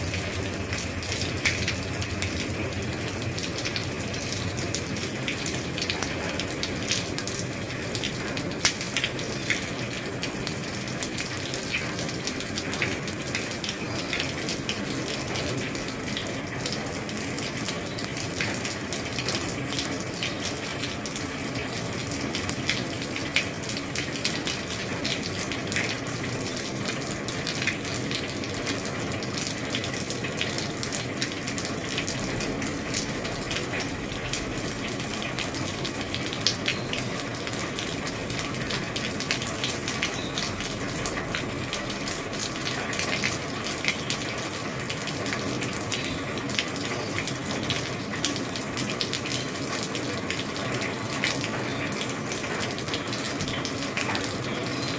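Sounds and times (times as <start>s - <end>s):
heavy rain drumming on roof: 0.0s - 54.9s
sharp drips: 0.0s - 54.9s.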